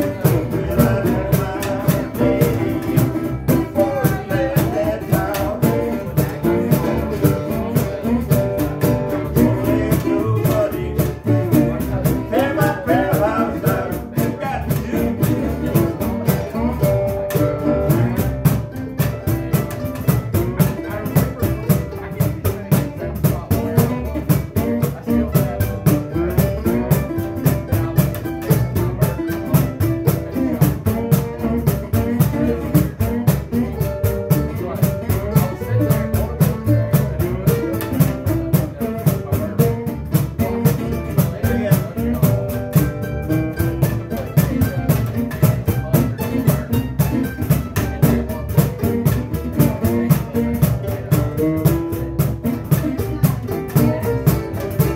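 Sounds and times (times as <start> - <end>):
cajon beat: 0.0 - 54.9
double bass: 0.0 - 54.9
guitars: 0.0 - 54.9.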